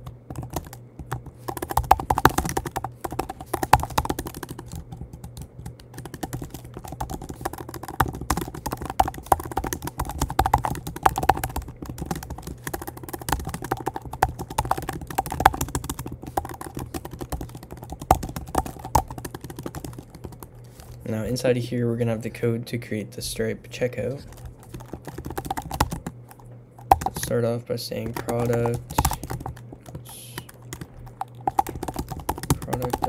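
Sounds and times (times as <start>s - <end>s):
computer keyboard typing: 0.0s - 21.3s, 24.0s - 33.0s.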